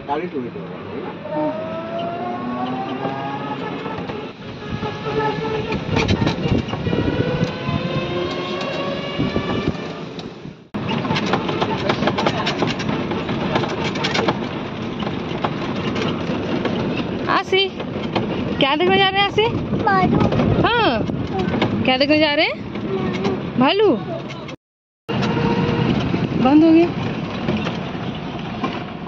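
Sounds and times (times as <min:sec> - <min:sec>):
cart frame rattling: 0:01.4 - 0:09.6, 0:10.8 - 0:29.0.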